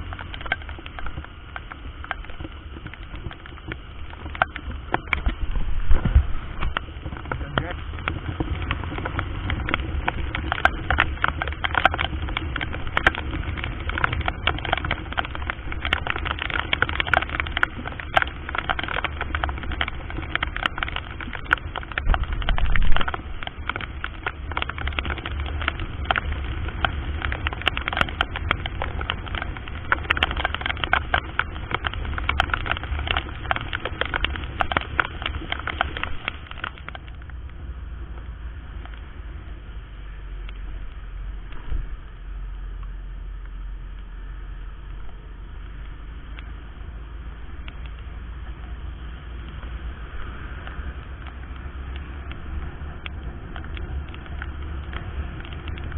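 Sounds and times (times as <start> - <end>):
crackling clicks: 0.0 - 55.9
wind rumble: 0.0 - 55.9.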